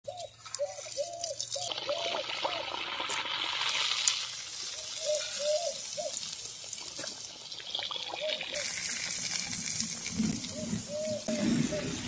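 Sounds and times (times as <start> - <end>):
oil sizzling and bubbling: 0.3 - 12.0.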